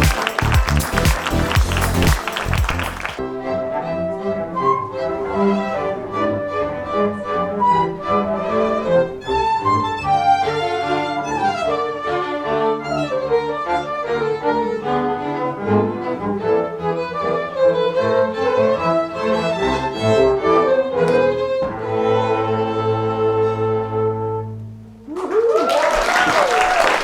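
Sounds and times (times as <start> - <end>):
bowed string music: 0.0 - 24.6.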